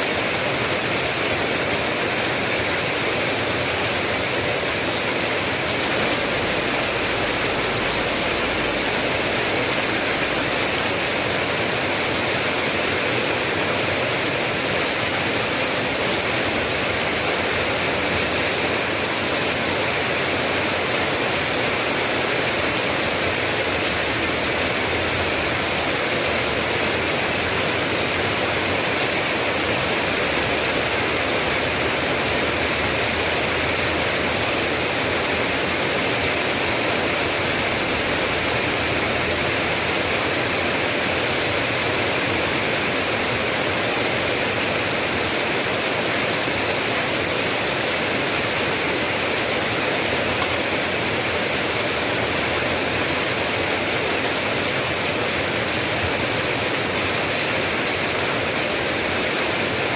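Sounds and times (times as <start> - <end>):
heavy rain hiss: 0.0 - 59.9.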